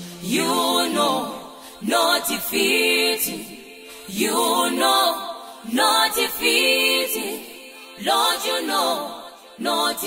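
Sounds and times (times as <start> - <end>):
gospel choir singing: 0.0 - 10.0.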